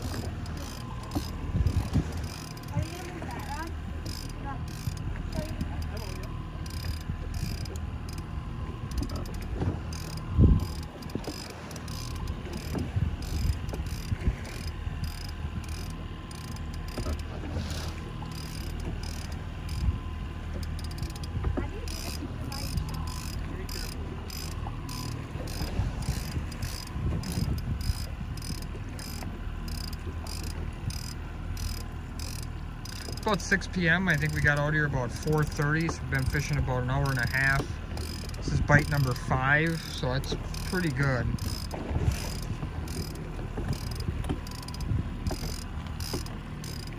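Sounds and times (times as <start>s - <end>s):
fishing reel clicking: 0.0s - 17.3s, 18.2s - 46.9s
boat engine droning: 0.0s - 46.9s.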